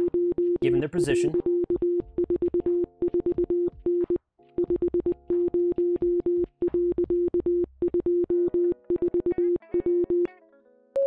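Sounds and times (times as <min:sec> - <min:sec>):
morse code tone: 0:00.0 - 0:10.3.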